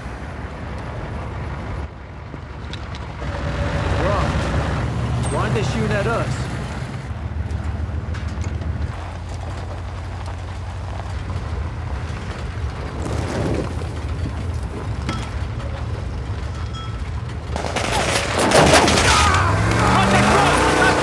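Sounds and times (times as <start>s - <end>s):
vehicle engine drone: 0.0s - 21.0s.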